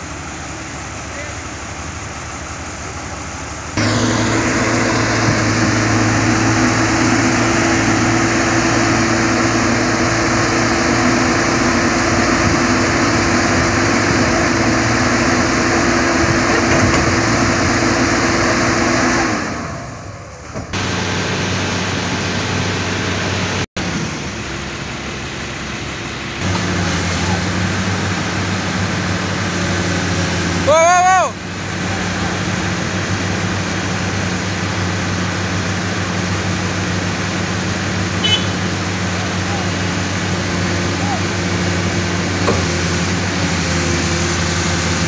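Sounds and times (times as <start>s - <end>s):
heavy diesel engine revving: 0.0s - 45.0s
lower diesel engine running: 0.0s - 45.0s.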